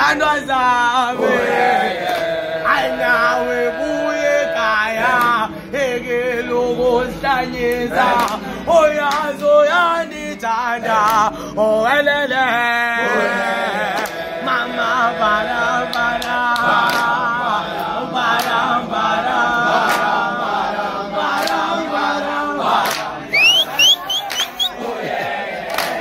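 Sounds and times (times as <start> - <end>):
young men chanting unaccompanied: 0.0 - 26.0.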